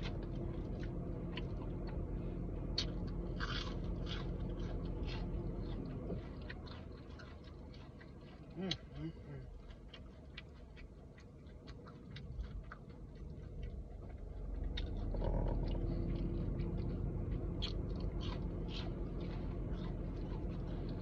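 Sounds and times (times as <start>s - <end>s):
chewing with wet mouth clicks: 0.0s - 21.0s
steady low hum: 0.0s - 21.0s.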